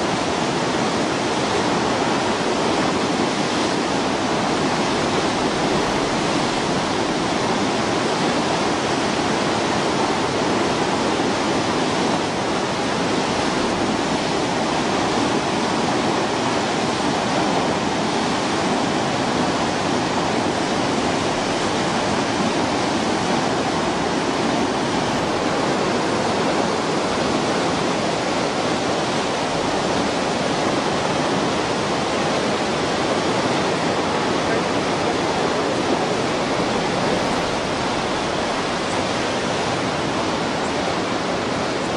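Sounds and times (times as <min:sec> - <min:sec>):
turbulent river water rushing: 0:00.0 - 0:41.9.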